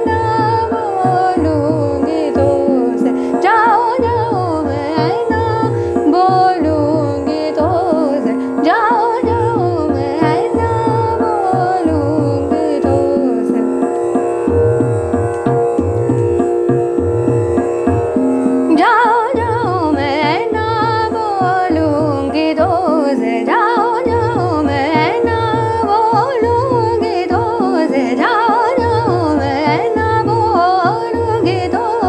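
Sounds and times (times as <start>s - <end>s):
woman singing melodic runs: 0.0s - 13.9s, 18.7s - 32.0s
tabla beat: 0.0s - 32.0s.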